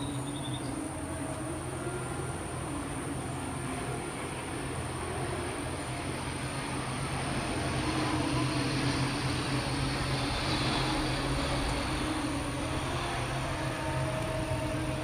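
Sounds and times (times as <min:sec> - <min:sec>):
jet engine roar: 0:01.8 - 0:15.0.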